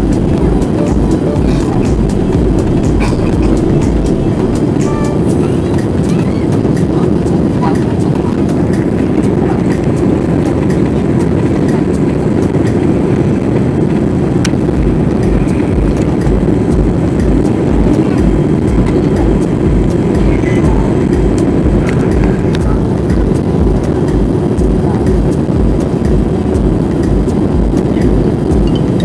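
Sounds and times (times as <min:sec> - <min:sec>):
airplane cabin engine rush: 0:00.0 - 0:29.0
low regular throbbing: 0:00.0 - 0:29.0.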